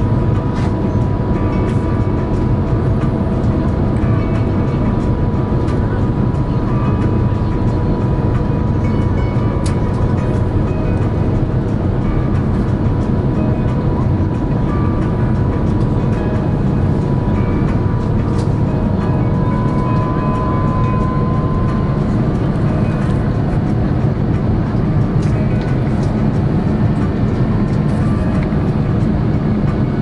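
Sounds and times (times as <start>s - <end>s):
airplane cabin engine roar: 0.0s - 30.0s.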